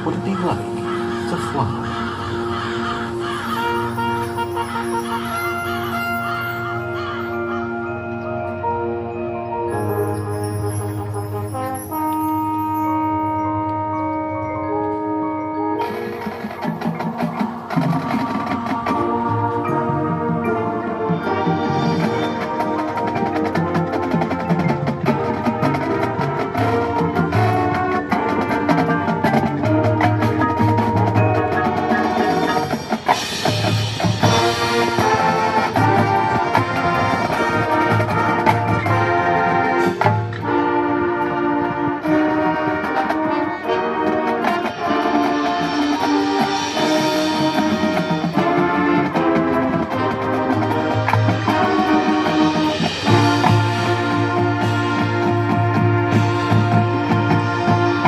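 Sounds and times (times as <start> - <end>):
brass chords: 0.0 - 58.0
drums and percussion: 0.0 - 58.0
marching band playing: 0.0 - 58.0.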